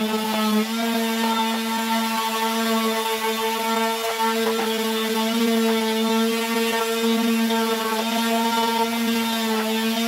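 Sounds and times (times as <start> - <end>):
electric sander on wood: 0.0 - 10.0.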